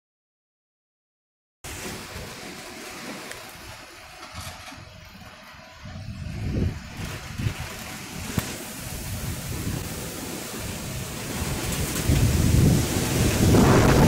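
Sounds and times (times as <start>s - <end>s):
rain hissing: 1.6s - 14.0s
gusty wind through trees: 1.7s - 14.0s
wind rumbling on microphone: 1.7s - 14.0s.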